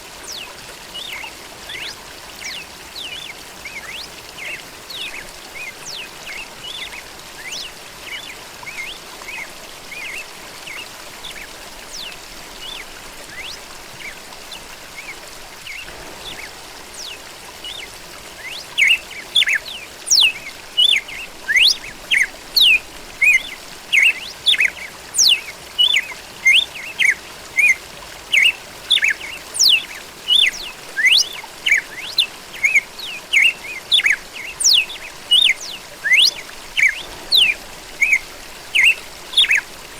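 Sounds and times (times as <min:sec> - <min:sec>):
birds chirping: 0:01.8 - 0:39.9.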